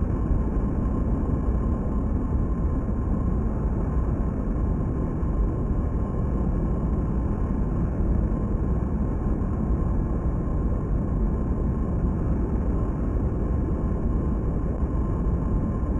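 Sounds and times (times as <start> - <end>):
faint steady whine: 0.0 - 15.9.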